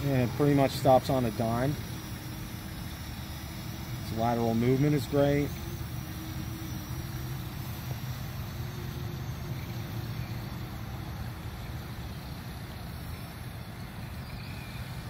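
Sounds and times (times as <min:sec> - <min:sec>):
drone propellers humming: 0:00.0 - 0:15.0
low outdoor rumble: 0:00.0 - 0:15.0.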